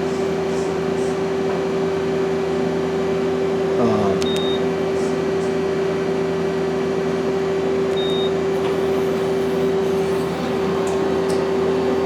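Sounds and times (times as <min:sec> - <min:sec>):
machine humming with constant tone: 0:00.0 - 0:12.0.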